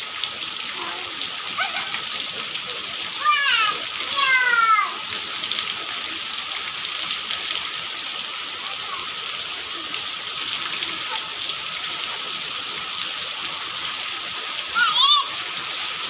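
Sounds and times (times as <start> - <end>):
rain spattering on wet ground: 0.0 - 16.0.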